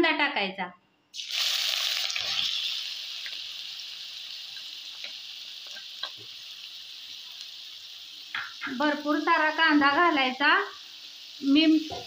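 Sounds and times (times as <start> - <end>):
onion sizzling in hot oil: 1.1 - 12.0.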